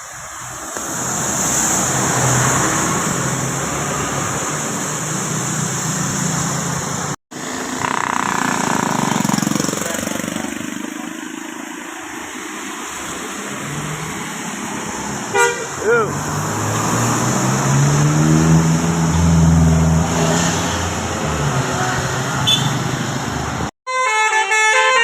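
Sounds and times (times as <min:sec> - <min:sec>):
vehicles passing by: 0:00.0 - 0:23.7
bus engine: 0:00.0 - 0:25.0.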